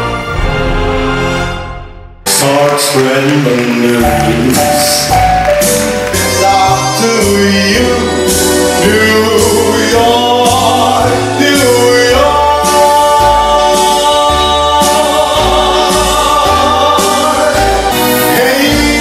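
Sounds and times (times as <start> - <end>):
person singing: 2.3 - 19.0.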